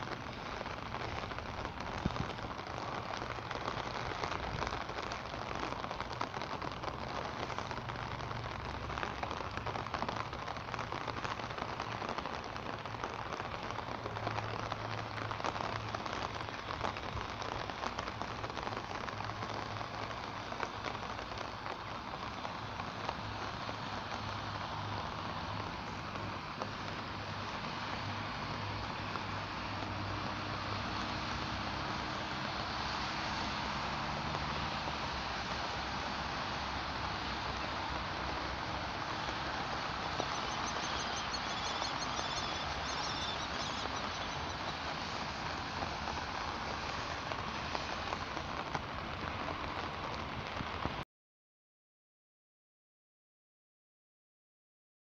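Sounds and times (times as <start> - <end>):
rain on an umbrella: 0.0 - 51.1.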